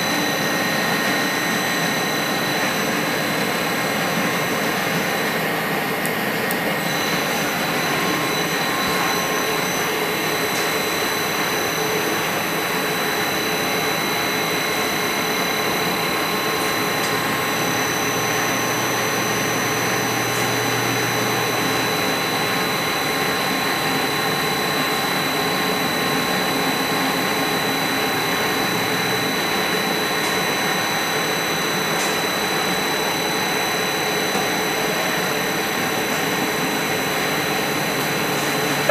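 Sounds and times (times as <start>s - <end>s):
milling machine whirring: 0.0s - 38.9s.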